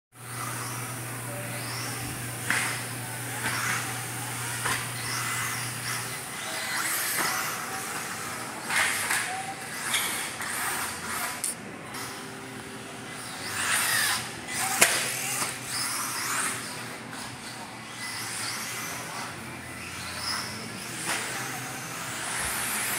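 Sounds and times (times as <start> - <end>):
electric motors whining: 0.2 - 22.9
steady low hum: 0.2 - 22.9.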